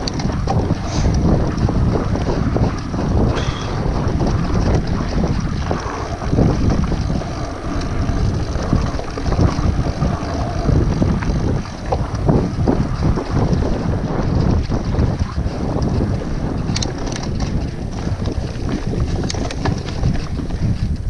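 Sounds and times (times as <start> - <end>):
bike knocking and rattling: 0.0 - 21.0
bike tyres rolling through sand: 0.0 - 21.0
wind noise on microphone: 0.0 - 21.0.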